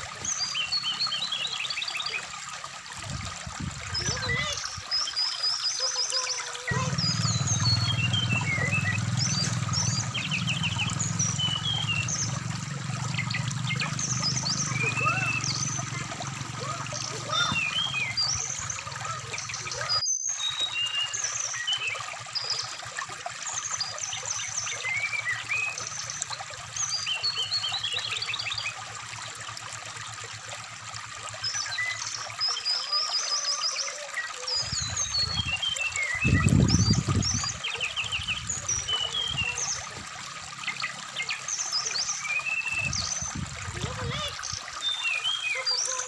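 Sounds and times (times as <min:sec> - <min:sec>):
bird song: 0:00.0 - 0:02.4, 0:03.9 - 0:28.9, 0:31.4 - 0:46.0
stream trickling: 0:00.0 - 0:46.0.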